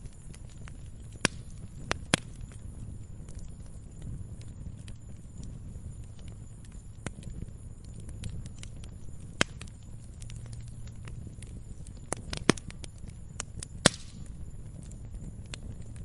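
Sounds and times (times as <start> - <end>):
log fire crackling: 0.0 - 16.0
low rumble of burning: 0.0 - 16.0.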